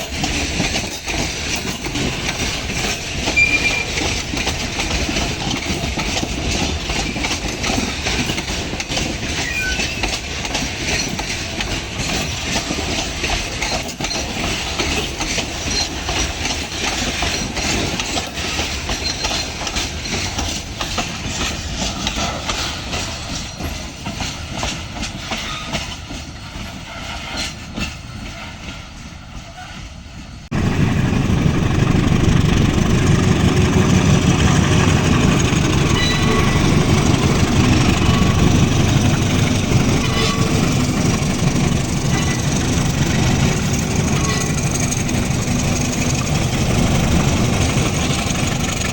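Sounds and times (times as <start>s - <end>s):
train wheels clattering over rails: 0.0s - 48.9s.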